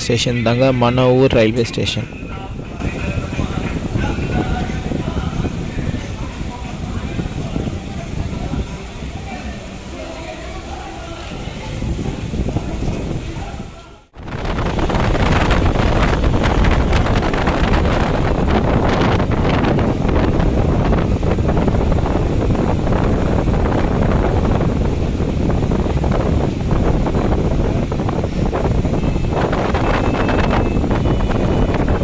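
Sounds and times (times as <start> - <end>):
wind buffeting microphone: 1.4 - 32.0.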